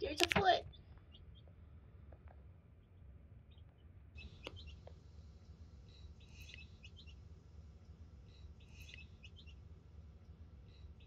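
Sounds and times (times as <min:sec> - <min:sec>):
chicks peeping: 0:00.0 - 0:01.6, 0:02.2 - 0:11.0
low steady hum: 0:00.0 - 0:11.0.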